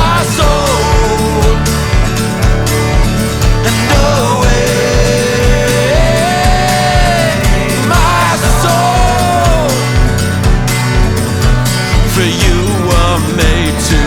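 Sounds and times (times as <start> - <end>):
fast drum beat: 0.0 - 14.0
folk-rock band music: 0.0 - 14.0.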